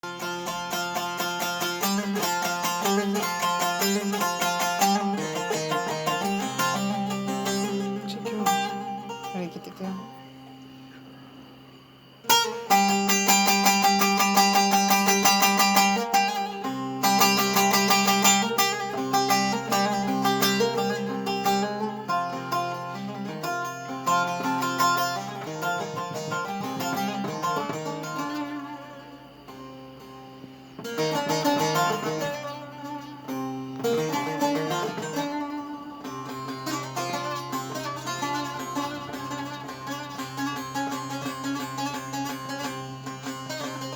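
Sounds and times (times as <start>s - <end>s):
plucked lute melody with drone: 0.0s - 43.9s.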